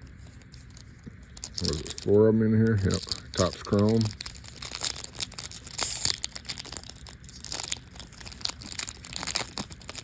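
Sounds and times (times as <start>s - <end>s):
foil wrapper crinkling and tearing: 0.3s - 10.0s.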